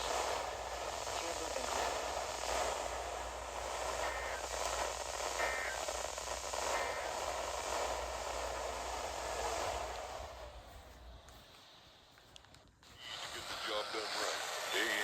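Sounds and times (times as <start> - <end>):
low hum: 0.0 - 14.8
radio static hiss: 0.0 - 15.0.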